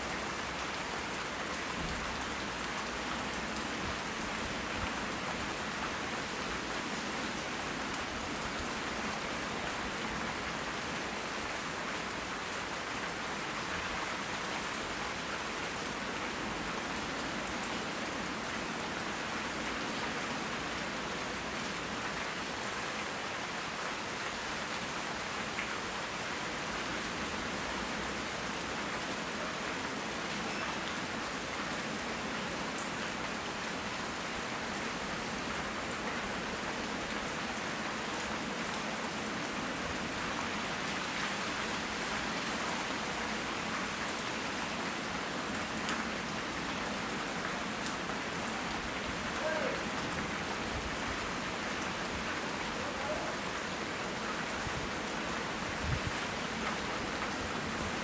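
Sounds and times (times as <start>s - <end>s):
raindrops ticking on surfaces: 0.0s - 58.0s
steady rain hiss: 0.0s - 58.0s.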